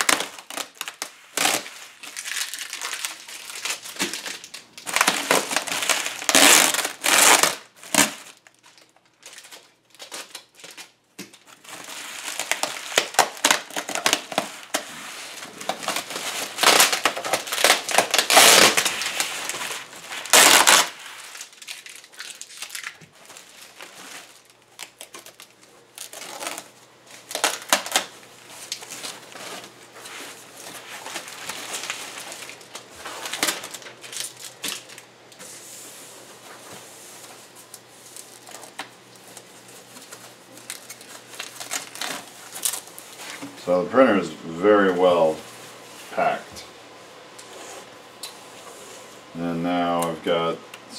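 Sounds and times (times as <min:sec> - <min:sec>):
plastic packaging crinkling: 0:00.0 - 0:35.4, 0:36.4 - 0:43.6.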